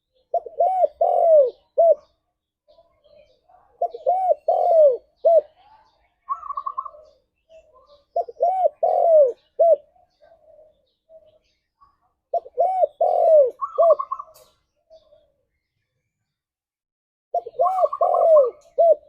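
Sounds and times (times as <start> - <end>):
dove cooing: 0.0 - 2.2, 3.0 - 15.4, 17.3 - 19.0.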